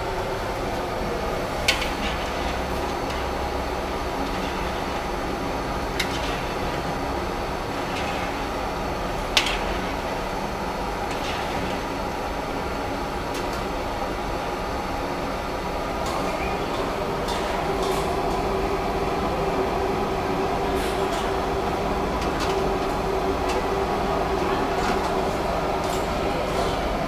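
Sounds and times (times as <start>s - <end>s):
gas burner roaring: 0.0s - 27.0s.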